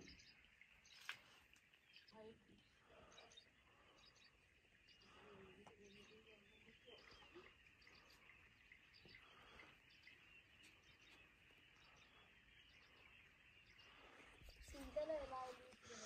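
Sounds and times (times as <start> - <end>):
high bird chirps: 0.0 - 16.0.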